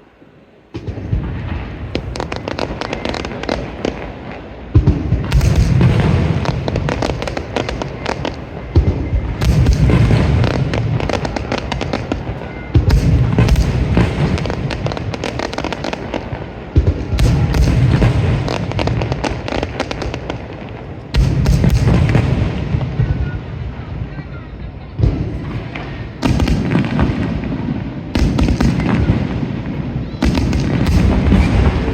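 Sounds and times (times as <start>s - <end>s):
fireworks booming: 0.7s - 31.9s
fireworks crackling: 0.7s - 31.9s.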